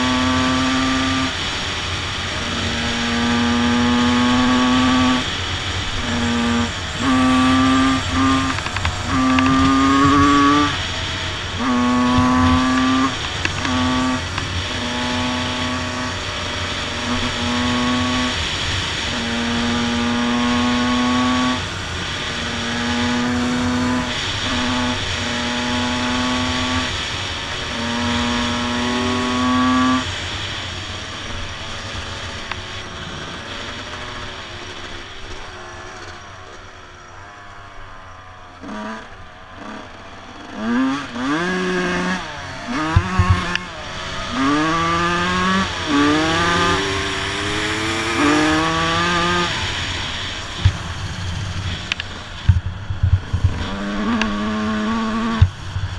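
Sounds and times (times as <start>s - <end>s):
two-stroke motorbike engines revving: 0.0s - 55.9s.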